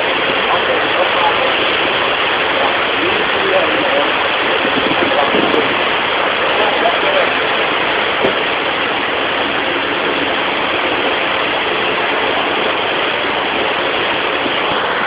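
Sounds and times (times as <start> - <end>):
car wash water spray and machinery: 0.0 - 15.0.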